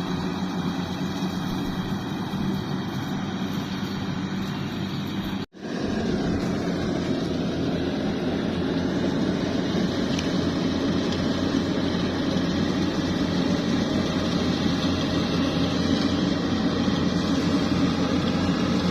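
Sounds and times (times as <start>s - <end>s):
combine harvester diesel engine: 0.0s - 18.9s.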